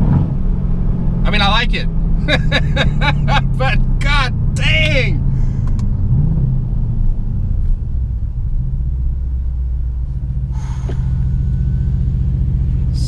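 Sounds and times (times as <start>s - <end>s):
car engine deep drone: 0.0s - 13.0s.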